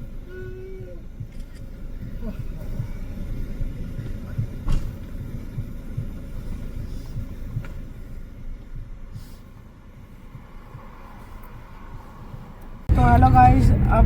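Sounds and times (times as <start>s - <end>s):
car cabin road rumble: 0.0s - 14.0s
faint ticks: 0.2s - 12.9s.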